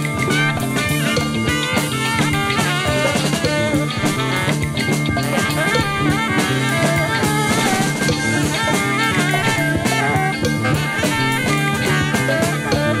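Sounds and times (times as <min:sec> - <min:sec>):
drum kit: 0:00.0 - 0:13.0
rock guitar: 0:00.0 - 0:13.0.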